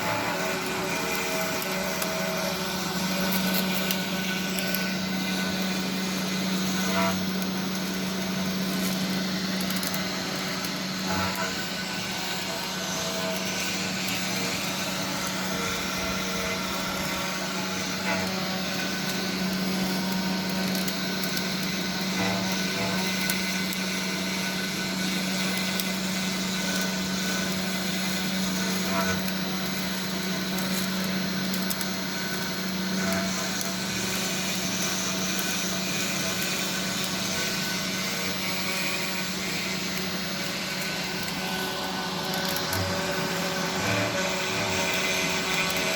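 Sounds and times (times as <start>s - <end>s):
spindle motor hum and whine: 0.0s - 45.9s.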